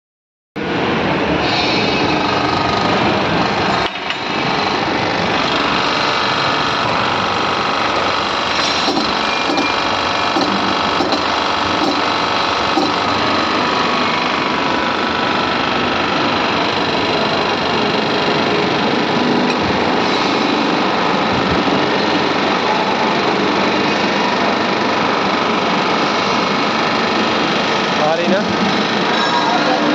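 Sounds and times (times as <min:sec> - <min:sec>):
hydraulic pump running: 0:00.6 - 0:29.9.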